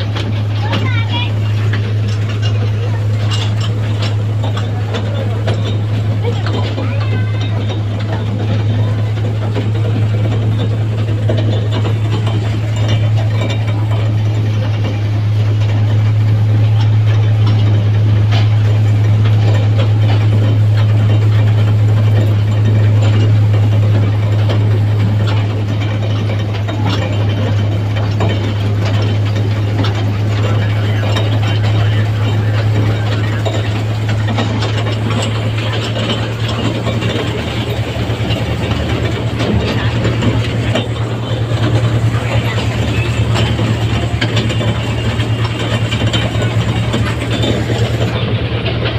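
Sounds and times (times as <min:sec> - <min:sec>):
carriages rattling and knocking: 0:00.0 - 0:48.9
toy train engine drone: 0:00.0 - 0:48.9.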